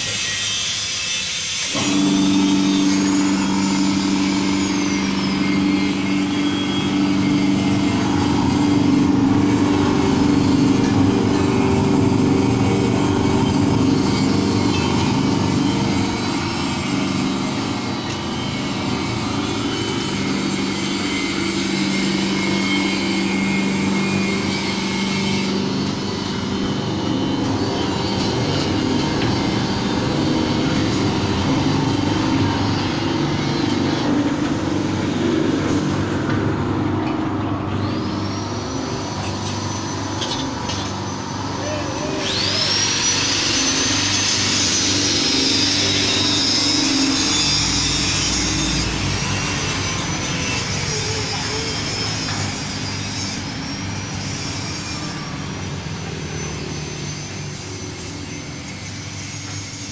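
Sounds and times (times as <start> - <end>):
mixer electric motor humming: 1.6 - 59.9.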